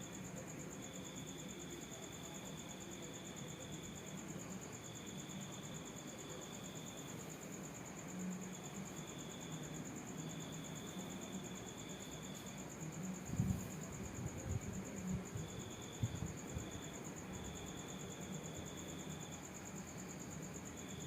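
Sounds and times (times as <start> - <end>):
lower insect call: 0.0 - 21.0.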